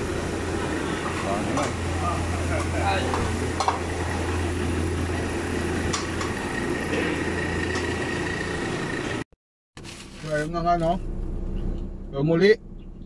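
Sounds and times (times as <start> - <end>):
low mechanical hum: 0.0 - 9.2, 9.8 - 13.0.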